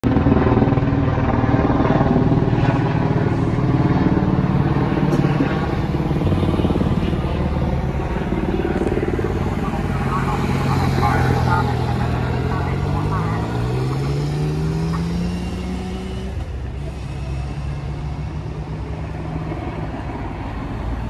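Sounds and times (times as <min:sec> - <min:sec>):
vehicle engines running: 0:00.0 - 0:21.0.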